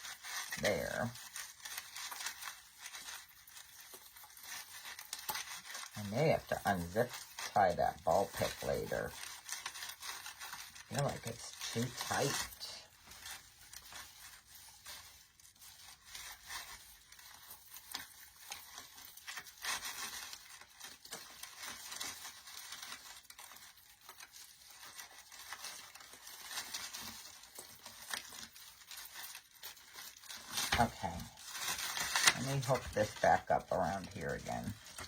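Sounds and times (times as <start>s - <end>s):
artificial foliage rustling: 0.0s - 35.0s.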